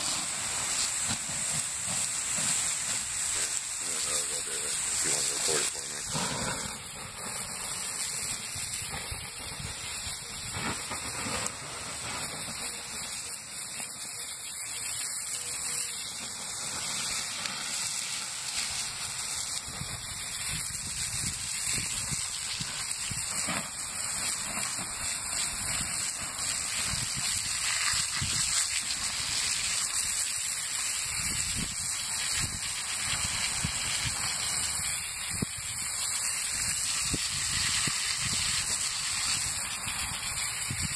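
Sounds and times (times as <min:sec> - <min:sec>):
hose spray and steam hissing: 0:00.0 - 0:40.9.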